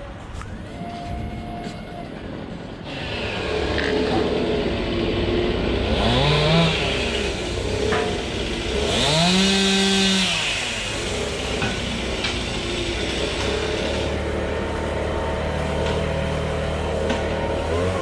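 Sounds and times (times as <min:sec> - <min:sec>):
chainsaw engine revving: 0:02.8 - 0:18.0.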